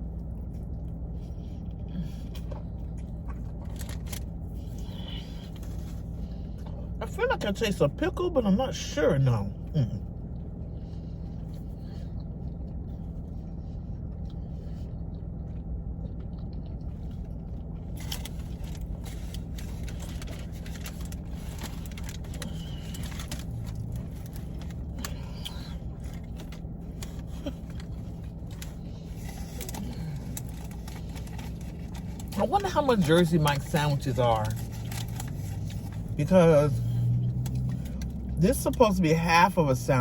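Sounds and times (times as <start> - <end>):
person chewing food: 0.0 - 7.0, 9.6 - 36.2, 36.8 - 38.4
low hum: 0.0 - 40.0.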